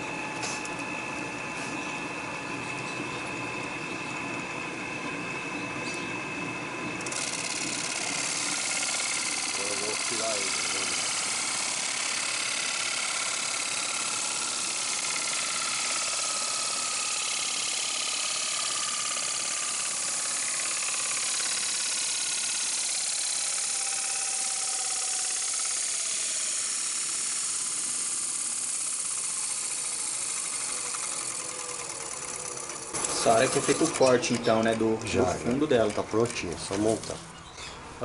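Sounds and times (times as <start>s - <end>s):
lathe running with faint whine: 0.0s - 37.2s.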